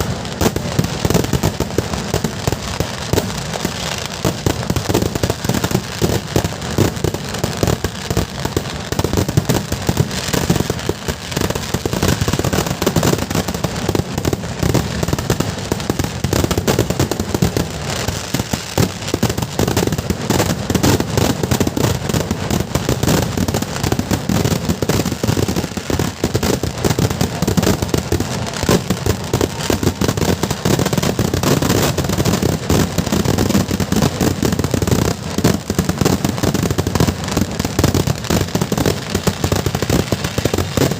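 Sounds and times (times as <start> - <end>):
firecracker barrage: 0.0 - 40.9.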